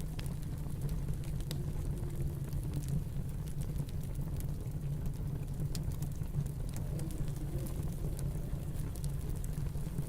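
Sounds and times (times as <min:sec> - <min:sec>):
low rumble of wind: 0:00.0 - 0:10.0
wood fire crackling: 0:00.0 - 0:10.0.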